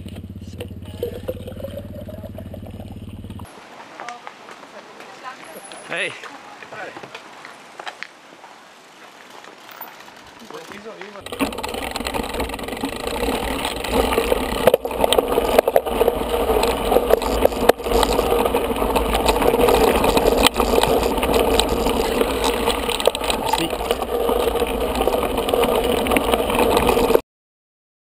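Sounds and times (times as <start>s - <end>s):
bike rattling over gravel: 0.0s - 27.2s.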